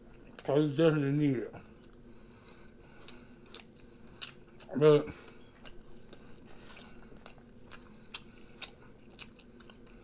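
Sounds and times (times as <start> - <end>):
faint wet chewing: 0.0 - 0.6, 1.5 - 10.0.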